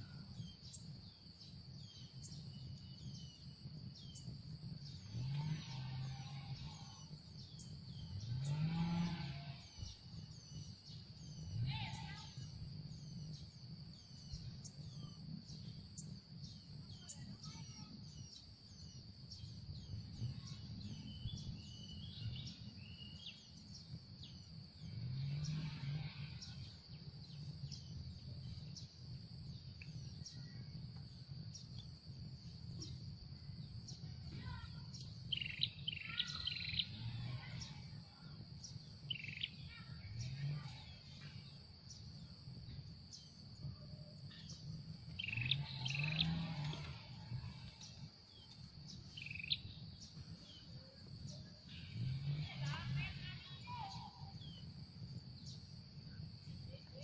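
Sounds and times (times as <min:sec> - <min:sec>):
wild birds chirping and calling: 0:04.0 - 0:31.6, 0:32.7 - 0:55.7.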